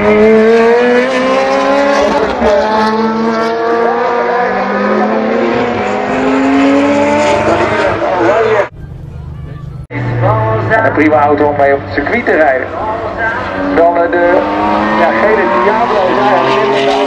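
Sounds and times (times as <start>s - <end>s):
sports car accelerating hard: 0.0s - 8.7s, 9.9s - 17.0s.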